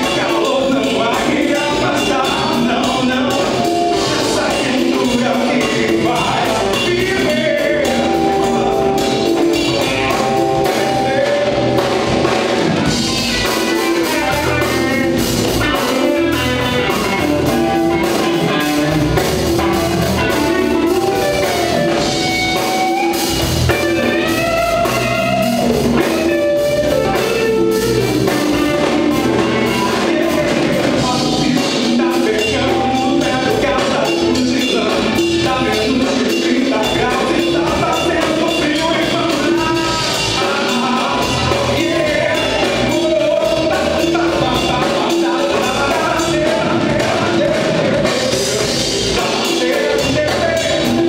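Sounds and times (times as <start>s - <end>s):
live band playing a song: 0.0s - 51.0s.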